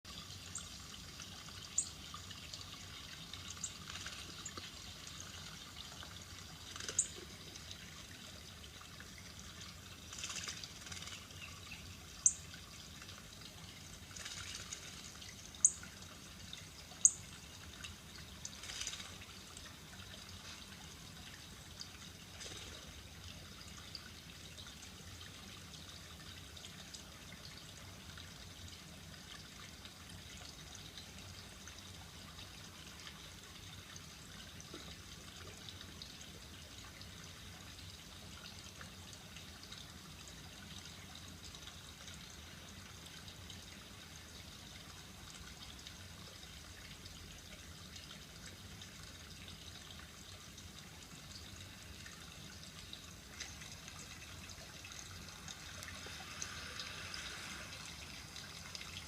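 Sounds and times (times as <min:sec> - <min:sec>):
water trickling: 0:00.1 - 0:59.0.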